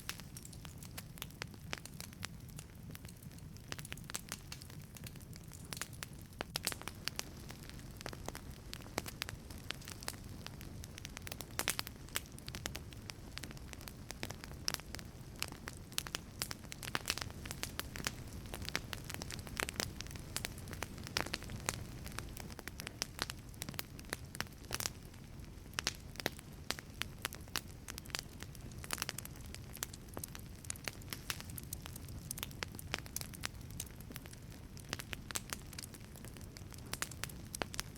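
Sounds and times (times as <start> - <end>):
fire crackling and popping: 0.0 - 37.9
low rumble of flame: 0.0 - 37.9.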